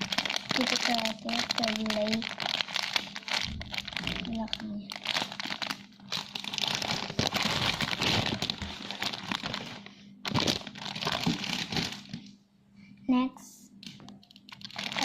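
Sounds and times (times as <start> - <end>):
squishy toys crinkling: 0.0 - 12.3, 14.3 - 15.0.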